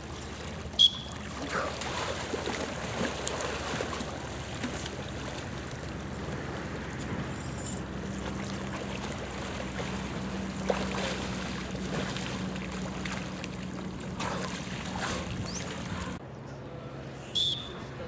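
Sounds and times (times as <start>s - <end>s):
water splashing and churning: 0.0s - 16.2s
steady low hum: 0.0s - 17.3s.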